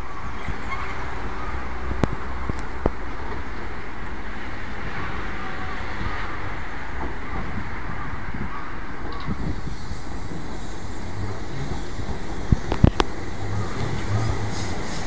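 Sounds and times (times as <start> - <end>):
distant vehicles rumbling: 0.0 - 15.0.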